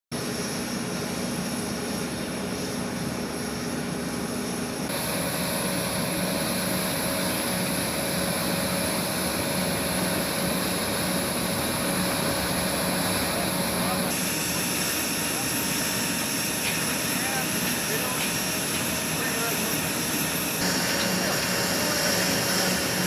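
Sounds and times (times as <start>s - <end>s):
jet engines roaring: 0.2s - 23.0s
steady engine tones: 0.9s - 23.0s.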